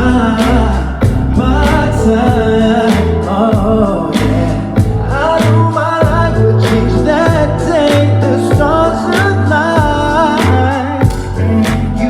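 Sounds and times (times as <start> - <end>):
backing track with bass and drums: 0.0 - 12.0
man singing soul song: 0.0 - 12.0.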